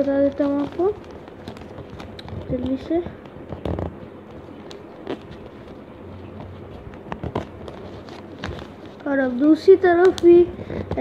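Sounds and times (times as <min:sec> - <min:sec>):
paper being folded: 0:00.0 - 0:11.0.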